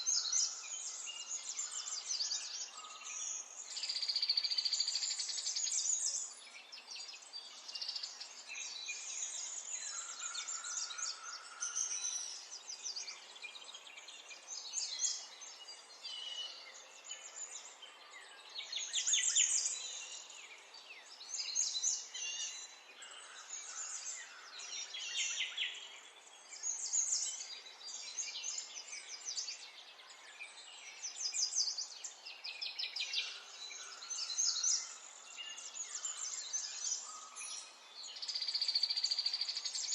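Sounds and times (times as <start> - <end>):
faint outdoor background hiss: 0.0 - 39.9
songbirds singing: 0.0 - 39.9.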